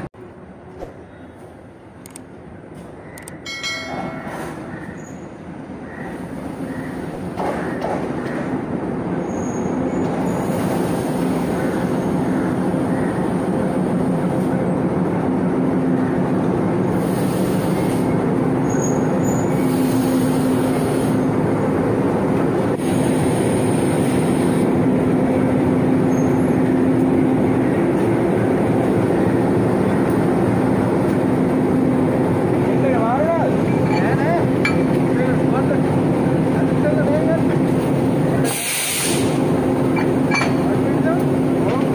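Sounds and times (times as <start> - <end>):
diesel locomotive engine droning: 0.0 - 41.9.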